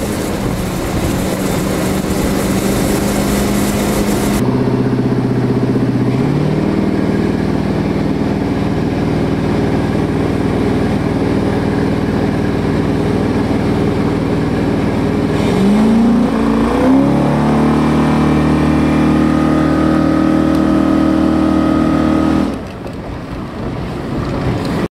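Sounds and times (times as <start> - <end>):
boat engine running hard: 0.0 - 24.9
water and wind noise: 0.0 - 24.9.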